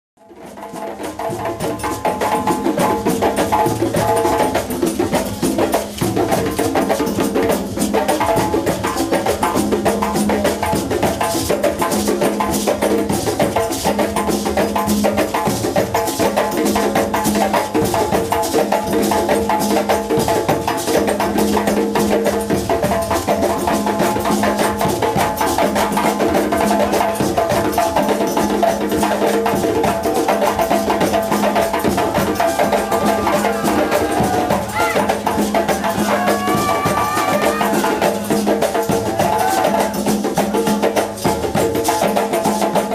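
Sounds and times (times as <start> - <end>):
percussion group drumming: 0.2 - 42.9.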